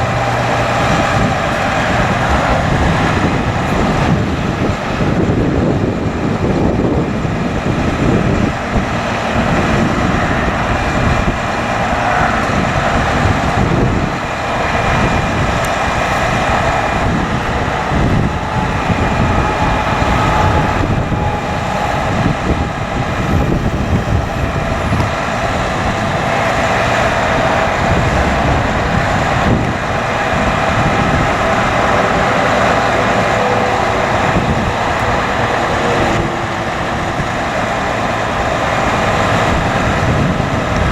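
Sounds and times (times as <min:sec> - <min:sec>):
faint hydraulic whine: 0:00.0 - 0:40.3
diesel truck engine running: 0:00.0 - 0:40.9.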